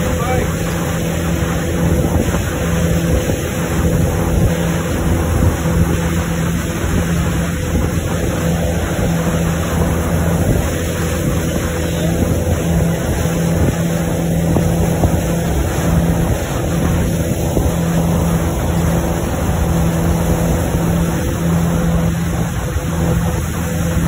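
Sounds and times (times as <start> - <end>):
boat engine running: 0.0 - 24.0
churning wake rushing: 0.0 - 24.0
wind buffeting microphone: 0.0 - 24.0.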